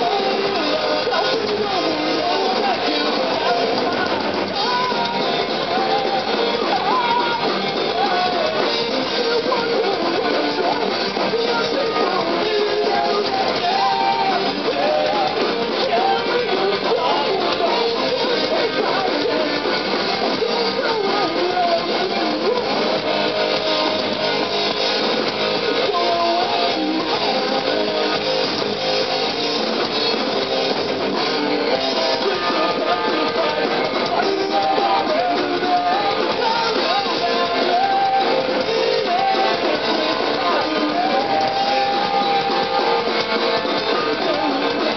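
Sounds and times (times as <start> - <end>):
punk band playing live: 0.0 - 44.9.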